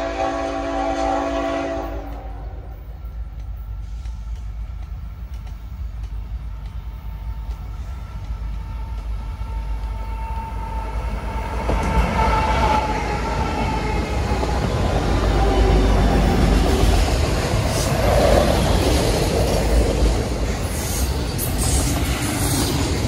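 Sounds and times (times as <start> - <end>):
diesel freight locomotives passing: 0.0 - 23.0.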